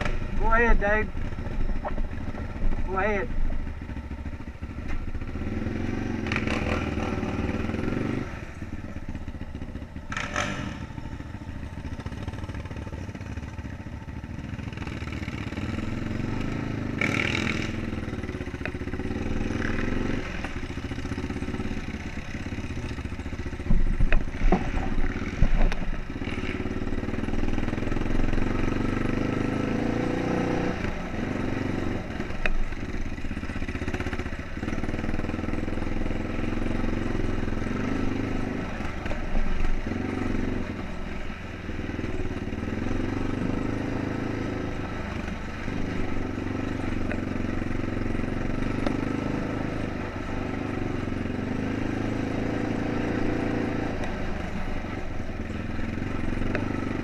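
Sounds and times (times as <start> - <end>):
four-wheeler engine revving: 0.0 - 57.0.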